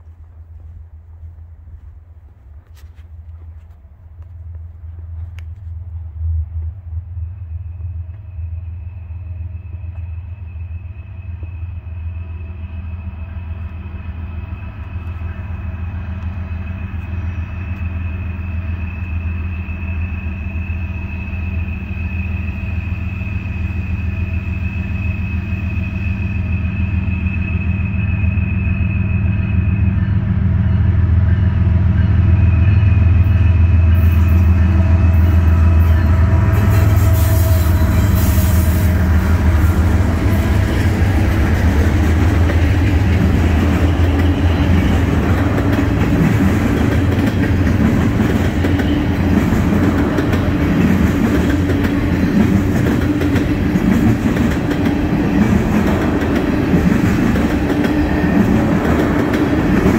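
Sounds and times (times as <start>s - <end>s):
locomotive engine rumble: 0.0s - 59.9s
wheels on rails: 0.0s - 59.9s
thin high whine: 6.6s - 59.9s.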